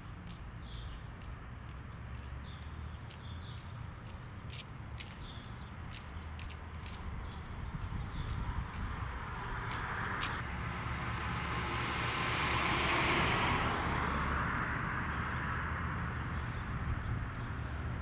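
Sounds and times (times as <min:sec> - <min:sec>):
low traffic rumble: 0:00.0 - 0:18.0
vehicle passing: 0:00.6 - 0:18.0.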